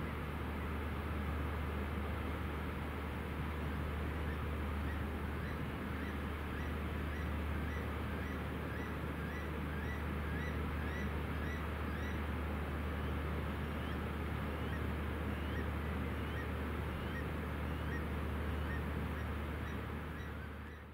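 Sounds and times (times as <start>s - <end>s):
boat engines droning: 0.0s - 20.9s.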